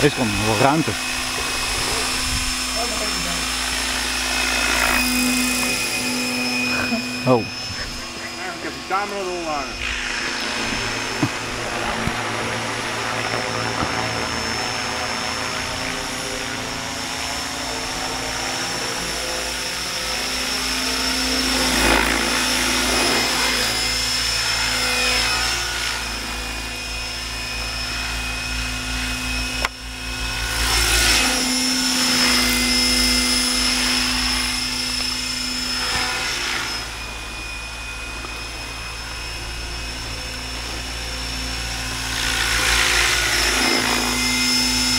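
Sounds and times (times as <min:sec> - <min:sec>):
model helicopter motor whine: 0:00.0 - 0:44.9.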